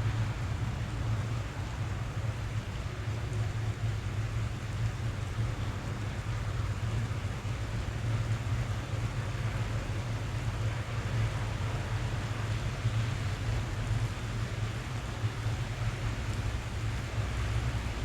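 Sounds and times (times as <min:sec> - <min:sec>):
rain on car roof: 0:00.0 - 0:18.0.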